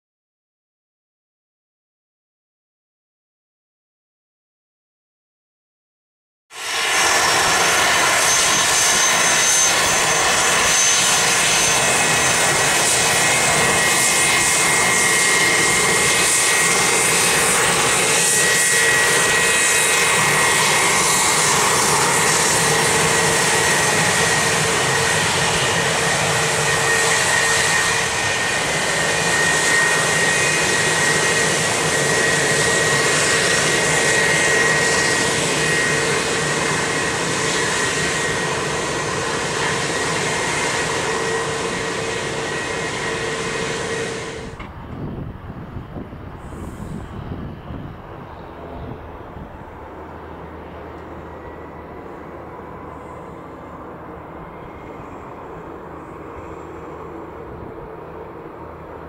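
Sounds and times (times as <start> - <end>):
jet engines whining: 6.6 - 59.0.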